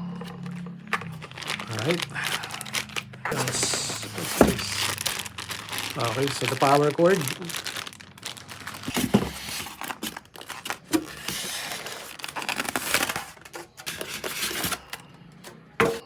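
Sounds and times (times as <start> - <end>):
packaging crinkling and tearing: 0.2 - 16.0.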